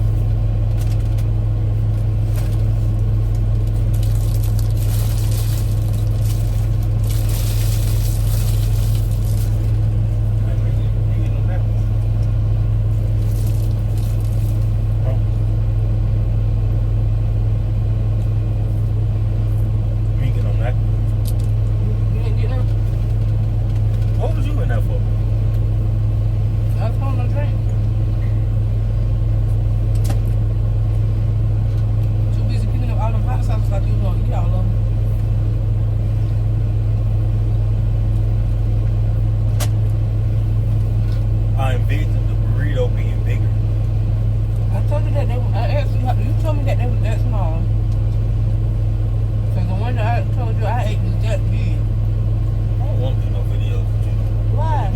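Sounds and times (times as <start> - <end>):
car engine rumble: 0.0 - 54.9.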